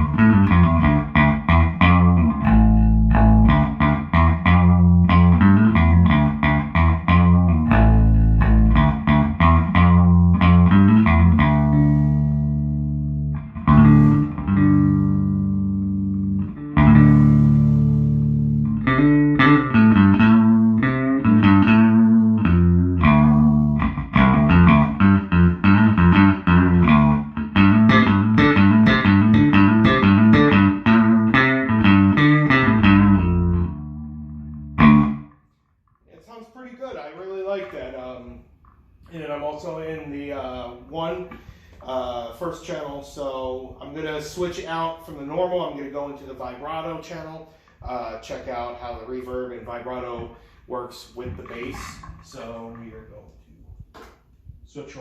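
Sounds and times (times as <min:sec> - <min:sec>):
electric bass guitar line: 0:00.0 - 0:36.0, 0:40.2 - 0:54.6.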